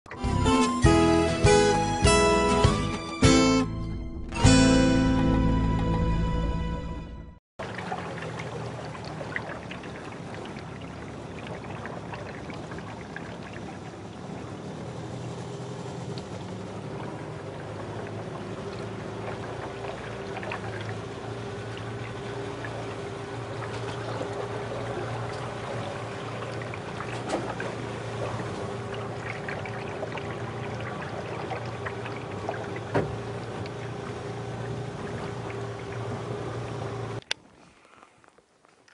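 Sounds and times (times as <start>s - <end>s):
boat motor hum: 0.1s - 37.9s
water lapping along hull: 7.6s - 38.9s.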